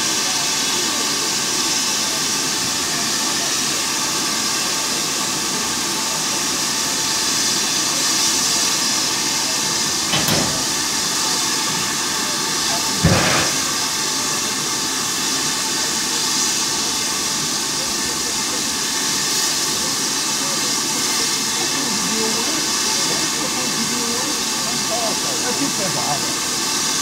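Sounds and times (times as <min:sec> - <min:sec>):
short blasts of steam: 0:00.0 - 0:27.0
steady steam hiss: 0:00.0 - 0:27.0.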